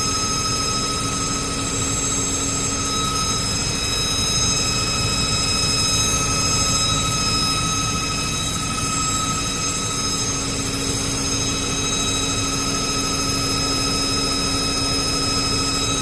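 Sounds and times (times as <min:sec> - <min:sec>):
machine humming steadily: 0:00.0 - 0:16.0.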